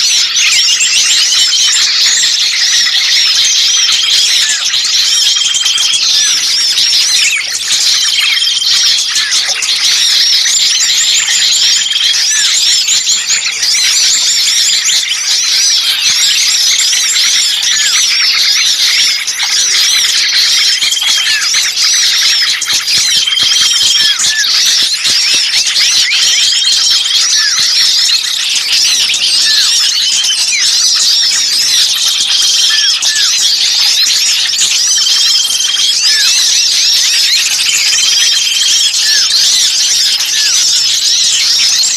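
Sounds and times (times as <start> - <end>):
songbirds chattering: 0.0 - 41.9.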